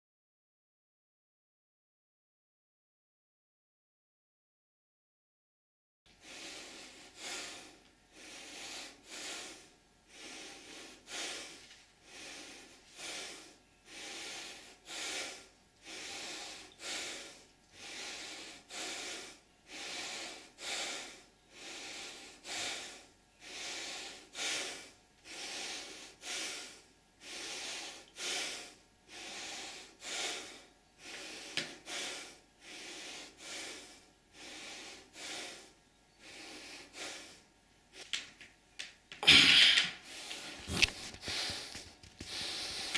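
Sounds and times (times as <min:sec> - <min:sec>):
man breathing hard: 0:06.2 - 0:37.5, 0:39.2 - 0:42.9.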